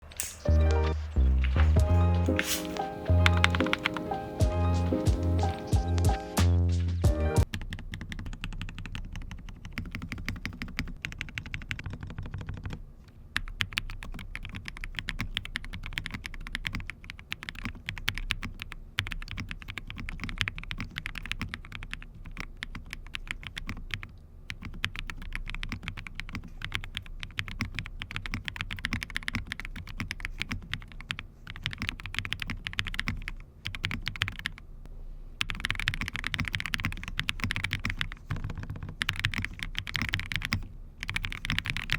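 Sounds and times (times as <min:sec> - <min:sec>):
mechanical keyboard typing: 0:01.9 - 0:05.8, 0:07.4 - 0:12.8, 0:13.4 - 0:34.6, 0:35.4 - 0:41.9.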